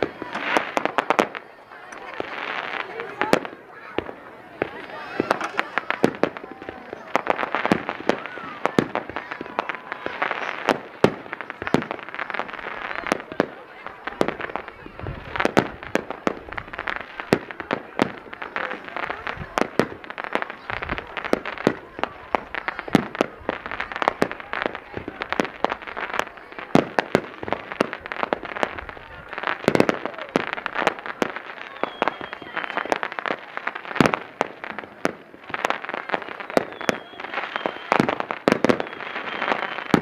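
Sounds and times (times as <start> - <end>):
fireworks bangs and crackling: 0.0 - 40.0
fireworks whistles: 0.0 - 40.0.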